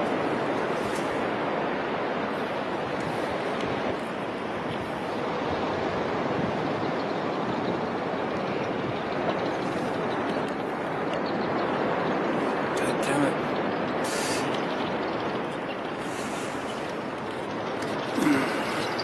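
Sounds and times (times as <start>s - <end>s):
surf breaking at shore: 0.0s - 19.0s.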